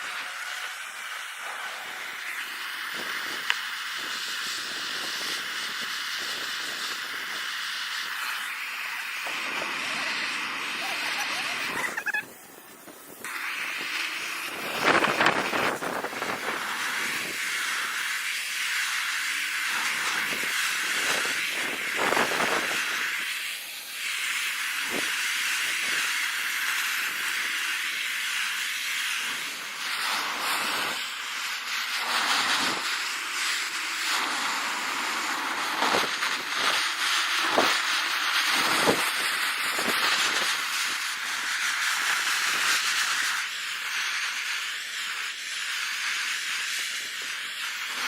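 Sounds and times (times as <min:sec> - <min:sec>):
gas torch flame hissing: 0:00.0 - 0:48.0.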